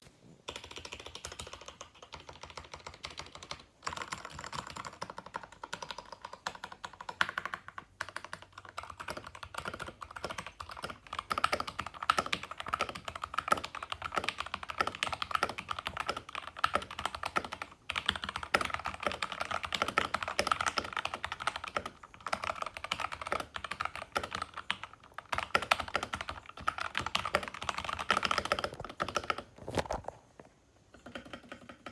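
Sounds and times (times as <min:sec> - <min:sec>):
fast keyboard typing: 0:00.5 - 0:30.1, 0:30.9 - 0:31.9.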